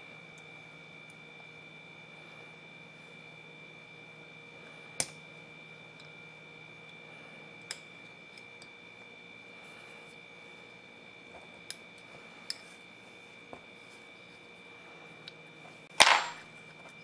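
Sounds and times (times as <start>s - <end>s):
steady high-pitched hum: 0.0s - 17.0s.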